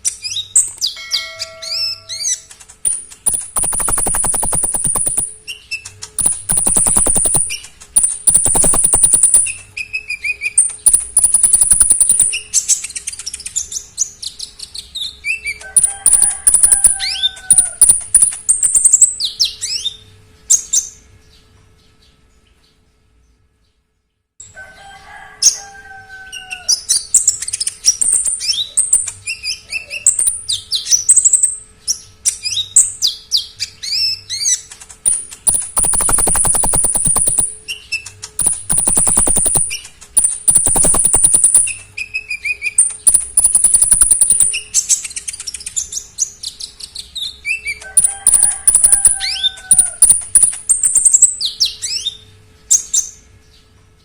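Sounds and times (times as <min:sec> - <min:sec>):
songbird singing with trills: 0:00.0 - 0:20.0, 0:27.0 - 0:53.2.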